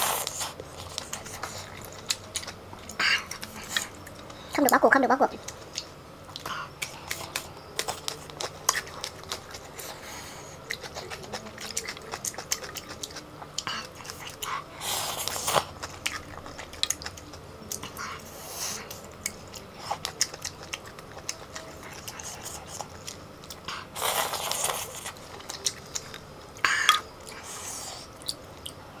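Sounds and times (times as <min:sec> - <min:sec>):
wet chewing: 0:00.0 - 0:28.8.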